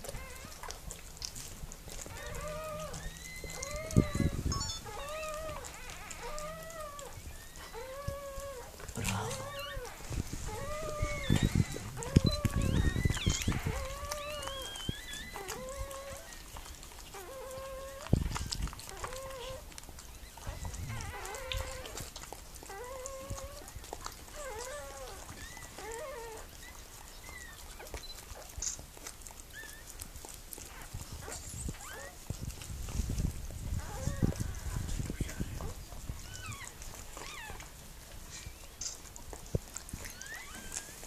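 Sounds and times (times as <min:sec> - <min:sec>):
puppy crying in high squeaks: 0:00.0 - 0:00.7, 0:02.0 - 0:28.8, 0:29.5 - 0:30.0, 0:30.7 - 0:32.2, 0:33.8 - 0:37.7, 0:40.0 - 0:41.0.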